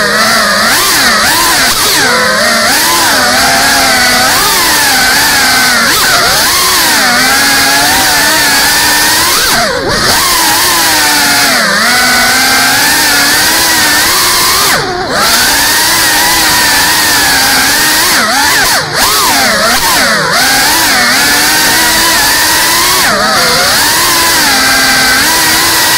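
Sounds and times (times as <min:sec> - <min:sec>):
drone propellers whining: 0:00.0 - 0:25.9.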